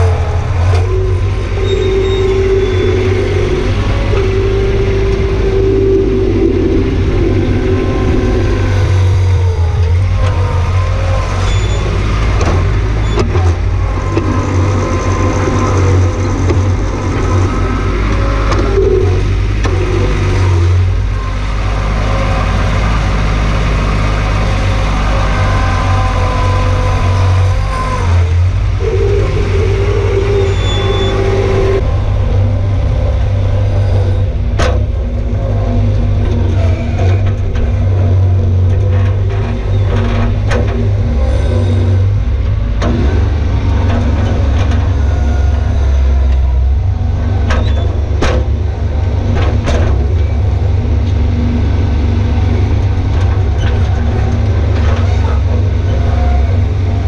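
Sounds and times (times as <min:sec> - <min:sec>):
diesel loader engine running: 0:00.0 - 0:57.0
hydraulic whine: 0:00.0 - 0:57.0.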